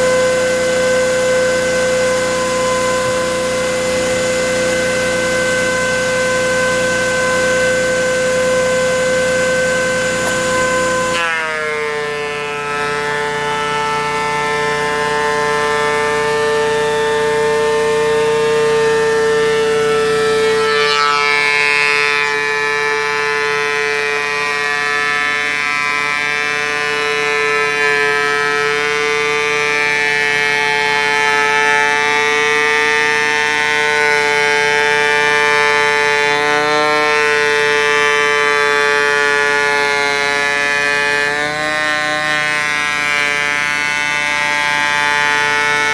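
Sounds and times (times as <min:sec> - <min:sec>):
thickness planer motor whine: 0:00.0 - 0:45.9.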